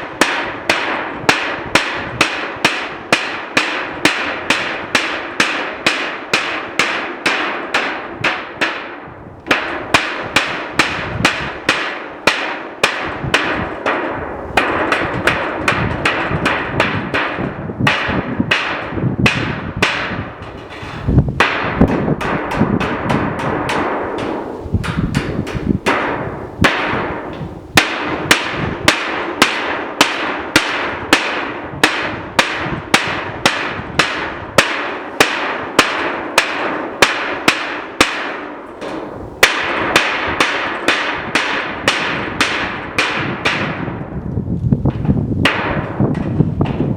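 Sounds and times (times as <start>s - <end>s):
hammering with ringing tail: 0.0s - 44.1s, 45.0s - 46.9s.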